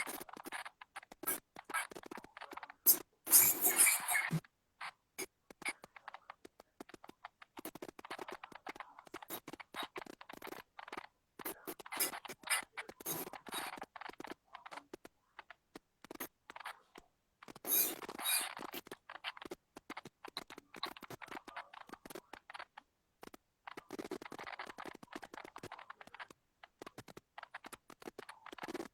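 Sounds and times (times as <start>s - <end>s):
scratching and rustling: 0.0s - 28.9s.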